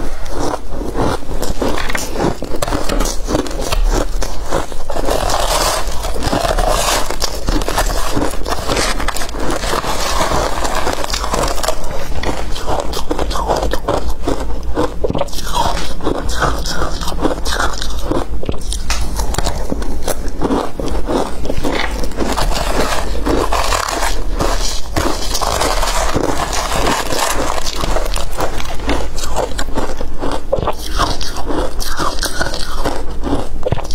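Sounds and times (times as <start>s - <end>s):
crunching and chewing ice: 0.0s - 33.9s
metal spoon scraping ice: 0.2s - 14.4s, 15.2s - 30.0s.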